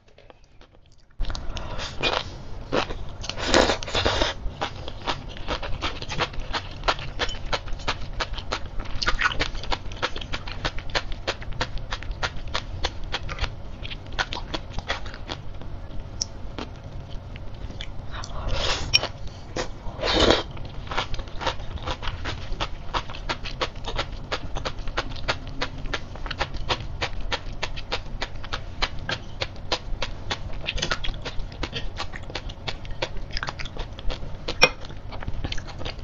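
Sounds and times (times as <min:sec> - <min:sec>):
chewing with crisp pops: 0:00.1 - 0:19.8, 0:20.4 - 0:36.0.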